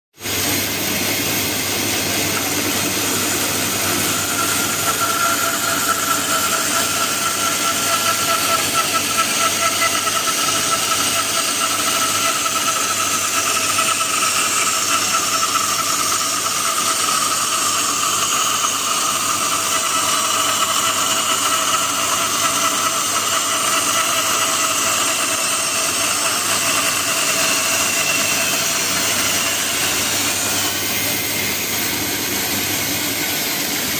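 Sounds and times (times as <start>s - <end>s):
bandsaw cutting wood: 0.2s - 33.9s.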